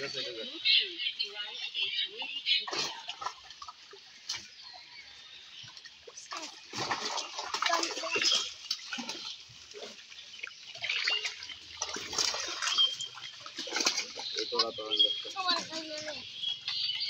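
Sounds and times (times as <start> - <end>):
pond water splashing: 0.0 - 17.0.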